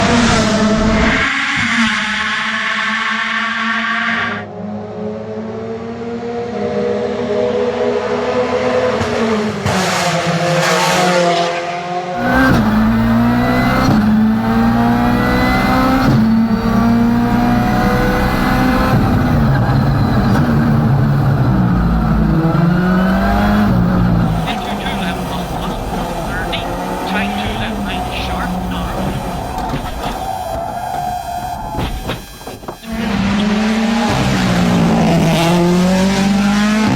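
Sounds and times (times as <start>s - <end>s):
rally car engines revving: 0.0s - 36.9s.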